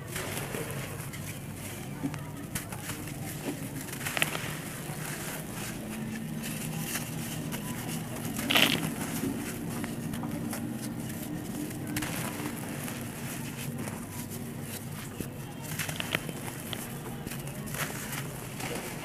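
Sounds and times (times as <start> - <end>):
dirt crunching in hands: 2.5 - 19.0.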